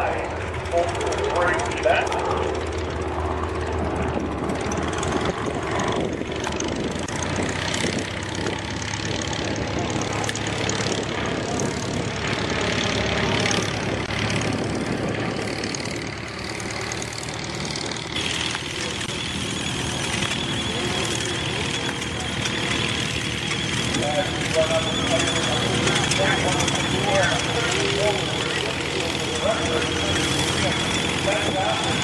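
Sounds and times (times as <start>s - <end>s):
propeller aircraft engines droning: 0.0s - 32.0s.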